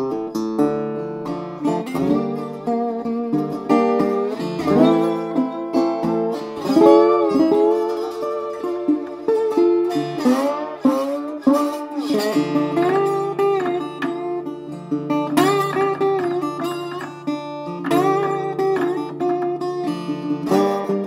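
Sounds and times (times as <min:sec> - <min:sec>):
slide guitar blues: 0:00.0 - 0:21.0.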